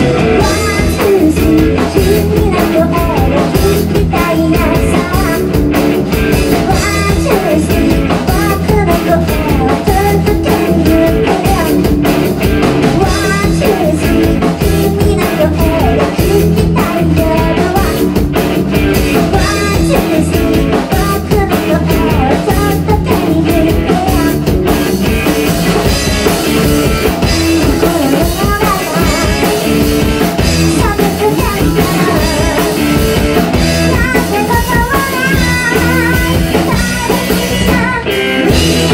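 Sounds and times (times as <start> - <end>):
bass guitar: 0.0 - 38.9
drum kit: 0.0 - 38.9
electric guitar: 0.0 - 38.9
woman singing lead: 0.0 - 38.9.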